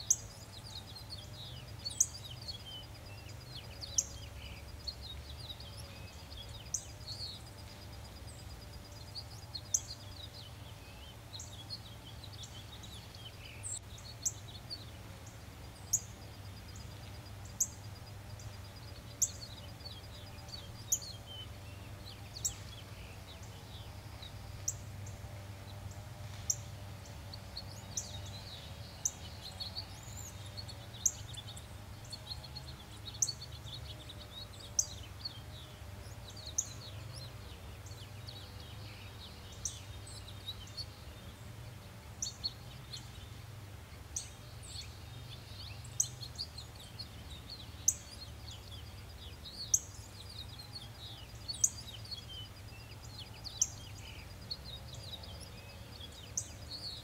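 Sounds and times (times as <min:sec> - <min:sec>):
soft bird chirps and twitters: 0:00.0 - 0:57.0.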